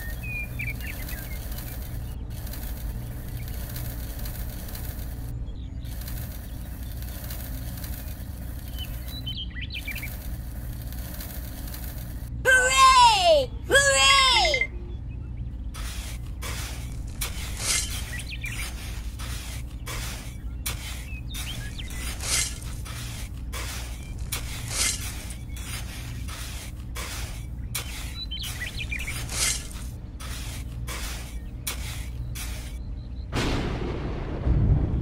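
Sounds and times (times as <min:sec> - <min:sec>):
toy shovel scraping sand: 0:00.0 - 0:12.3, 0:15.8 - 0:32.8
steady low hum: 0:00.0 - 0:12.7, 0:13.4 - 0:35.0.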